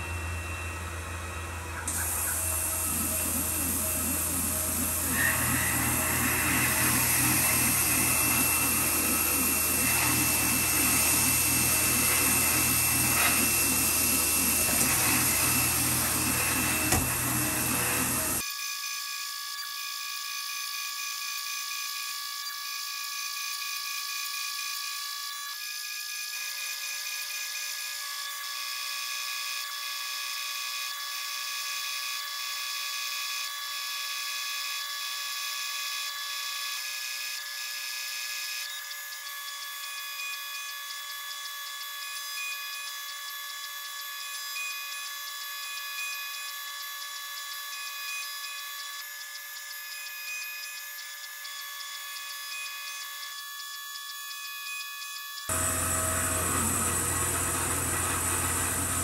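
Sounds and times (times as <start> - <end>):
high-pitched milling whine: 0.0 - 59.0.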